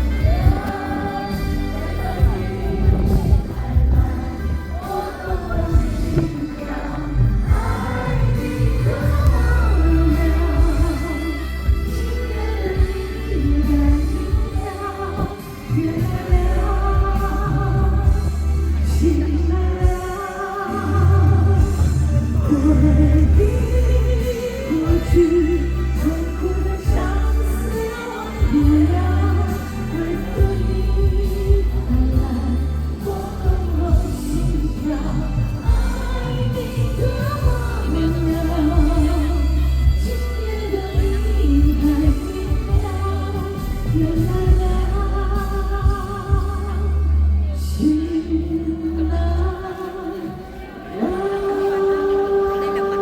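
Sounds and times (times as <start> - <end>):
heavy bass: 0.0 - 49.6
live band playing pop song: 0.0 - 53.0
person singing: 0.0 - 53.0.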